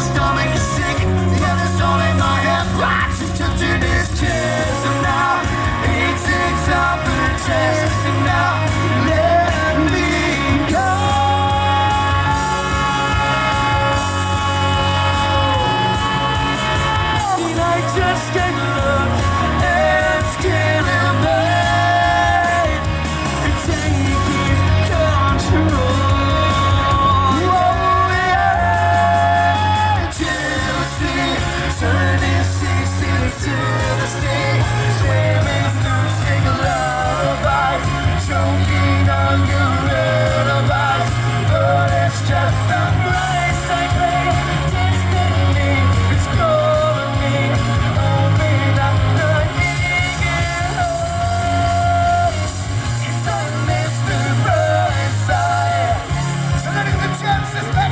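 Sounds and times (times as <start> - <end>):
live rock band playing: 0.0 - 57.9
person singing: 0.0 - 57.9.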